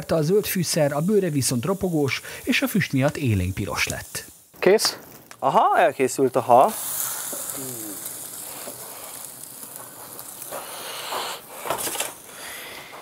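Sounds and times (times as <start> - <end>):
grill sizzling hiss: 0.0 - 13.0.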